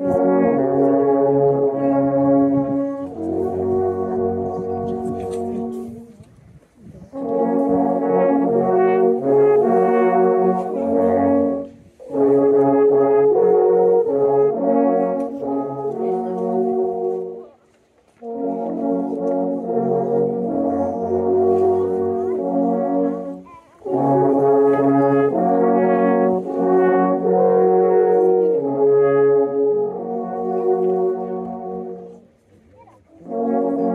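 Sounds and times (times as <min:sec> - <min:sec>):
alphorns playing in harmony: 0:00.0 - 0:06.2, 0:07.1 - 0:17.5, 0:18.1 - 0:32.2, 0:33.2 - 0:33.9.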